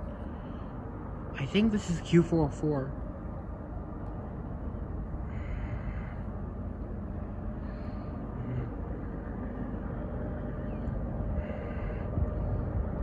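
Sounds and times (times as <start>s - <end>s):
freight train diesel rumble: 0.0s - 13.0s.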